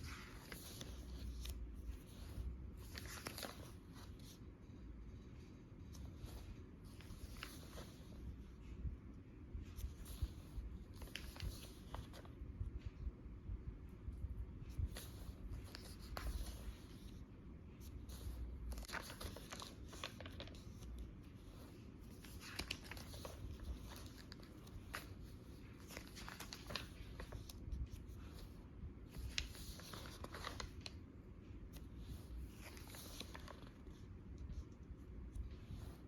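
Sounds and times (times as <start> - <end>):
paper rustling and crinkling: 0.0 - 8.8, 9.6 - 13.0, 14.2 - 36.0.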